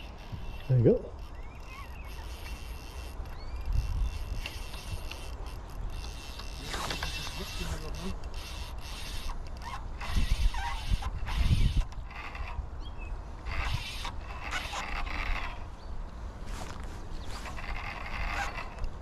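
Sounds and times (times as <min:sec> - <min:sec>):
fly reel ratchet clicking: 0:00.0 - 0:12.6, 0:13.4 - 0:15.7, 0:17.4 - 0:19.0.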